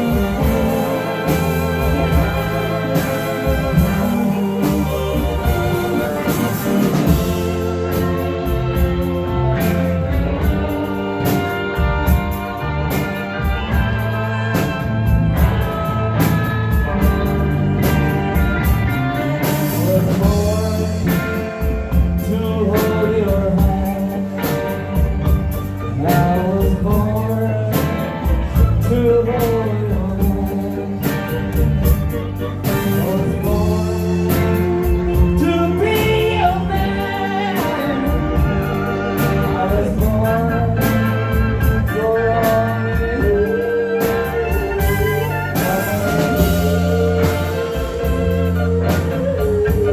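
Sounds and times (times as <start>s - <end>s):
live band music: 0.0s - 49.9s
person singing: 0.0s - 49.9s.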